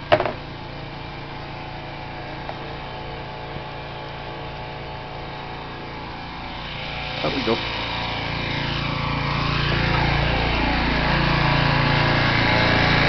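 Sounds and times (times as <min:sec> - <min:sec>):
small gasoline engine running: 0:00.0 - 0:13.0.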